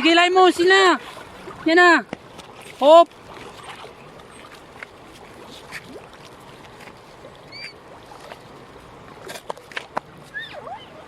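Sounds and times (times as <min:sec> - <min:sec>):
moving water: 0:00.0 - 0:11.0.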